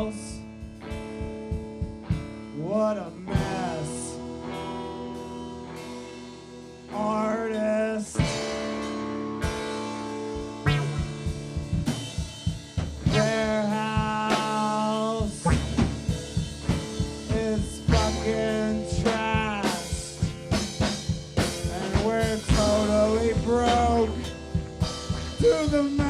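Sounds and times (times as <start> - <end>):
bass notes: 0.0 - 26.0
drum kit beat: 0.0 - 26.0
lead guitar line bending: 0.0 - 26.0
live rock band playing: 0.0 - 26.0.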